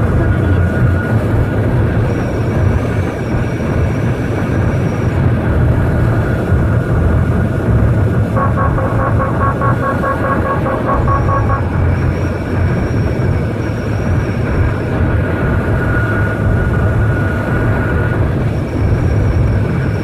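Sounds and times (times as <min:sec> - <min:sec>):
road and wind noise: 0:00.0 - 0:20.0
wind whistling: 0:00.0 - 0:20.0.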